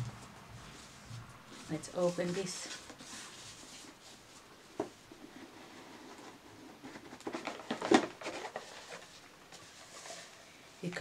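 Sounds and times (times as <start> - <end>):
rustling and scraping of packaging: 0.0 - 11.0.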